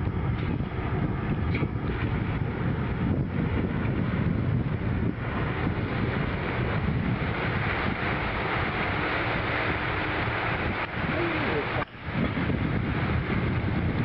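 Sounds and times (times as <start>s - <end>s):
loud rumbling noise: 0.0s - 14.0s
wind buffeting microphone: 0.0s - 14.0s.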